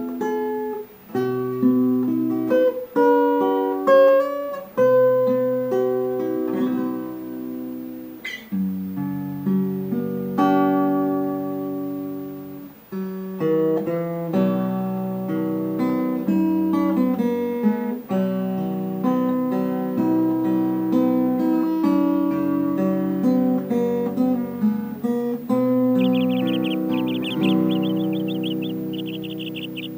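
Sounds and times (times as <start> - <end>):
acoustic guitar picking: 0.0 - 29.9.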